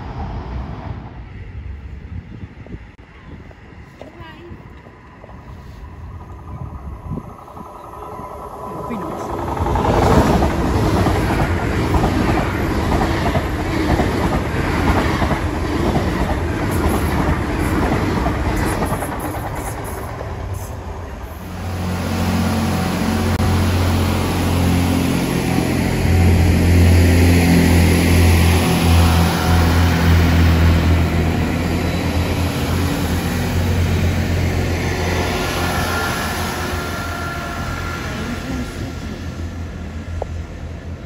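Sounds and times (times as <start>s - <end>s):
train engine droning: 0.0s - 41.0s.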